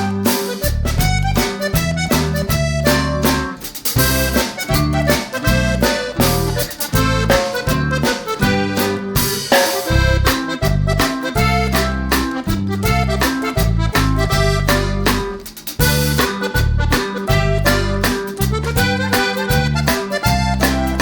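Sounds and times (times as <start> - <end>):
upbeat accordion music: 0.0 - 21.0.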